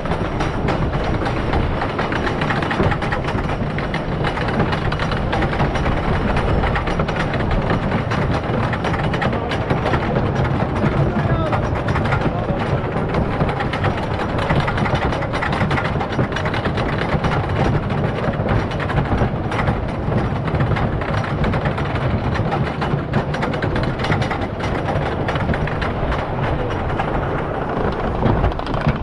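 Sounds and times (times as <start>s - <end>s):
rapid clicking of anti-rollback dogs: 0.0s - 29.0s
roller coaster lift chain clatter: 0.0s - 29.0s.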